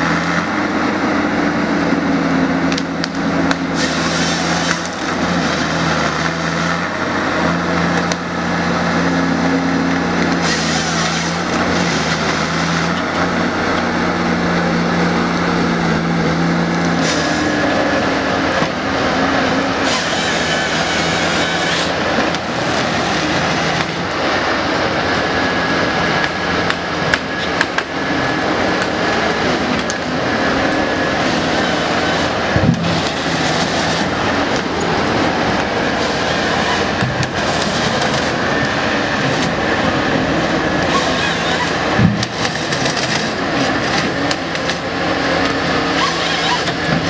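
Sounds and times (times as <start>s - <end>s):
harvester engine and hydraulics: 0.0s - 47.0s.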